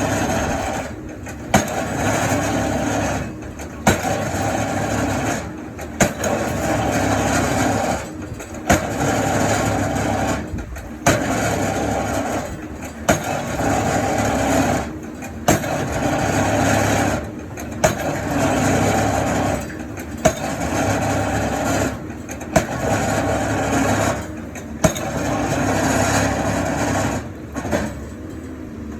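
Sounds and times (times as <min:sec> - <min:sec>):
excavator engine and hydraulics: 0:00.0 - 0:28.9.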